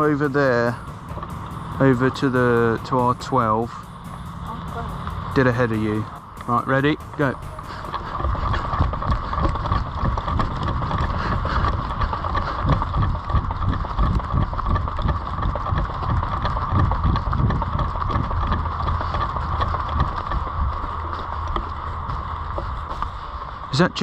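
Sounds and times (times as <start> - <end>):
wind buffeting microphone: 0.0 - 23.8.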